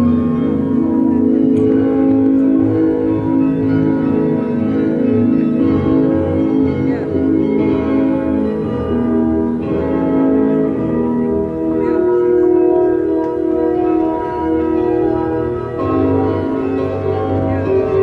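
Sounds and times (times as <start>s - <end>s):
carillon bells playing a melody: 0.0s - 18.0s.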